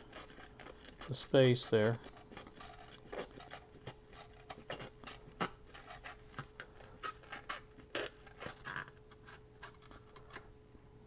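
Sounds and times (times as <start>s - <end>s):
knife cutting paper: 0.0s - 10.5s.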